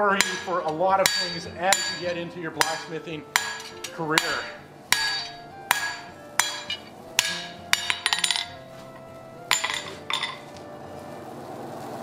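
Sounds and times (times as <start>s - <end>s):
hammer striking steel on anvil: 0.0s - 10.5s.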